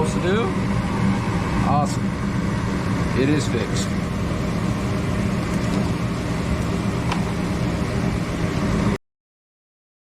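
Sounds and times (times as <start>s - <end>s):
gas furnace running: 0.0s - 9.0s.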